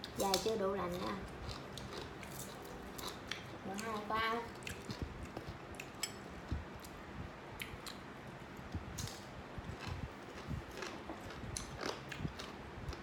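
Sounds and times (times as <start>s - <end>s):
person chewing fruit: 0.0s - 13.0s.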